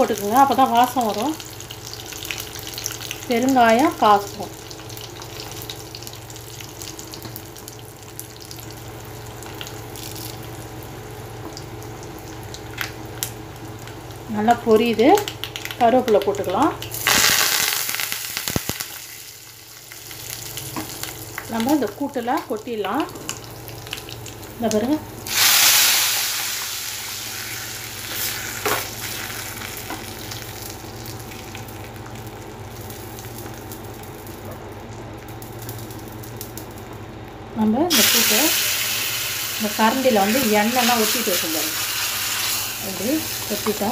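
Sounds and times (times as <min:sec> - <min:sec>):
hot oil sizzling: 0:00.0 - 0:37.2, 0:37.9 - 0:43.9
spices popping and crackling: 0:00.0 - 0:43.9.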